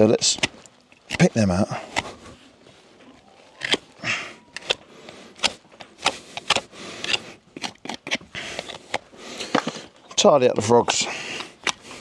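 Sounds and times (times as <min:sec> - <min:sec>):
hoof pick scraping hoof: 0:00.0 - 0:12.0.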